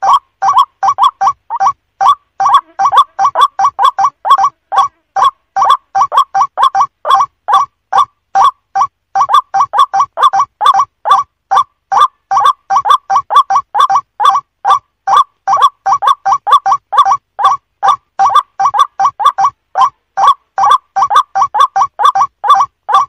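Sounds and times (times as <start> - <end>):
bird calling harsh notes: 0.0 - 23.0.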